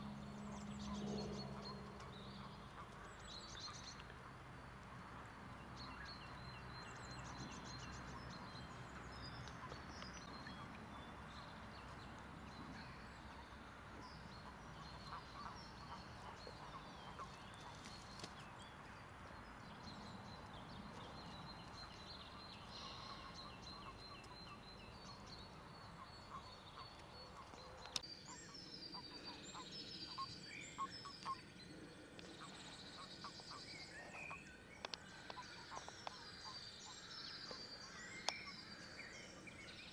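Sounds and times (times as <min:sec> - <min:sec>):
faint birdsong: 0:00.0 - 0:39.9.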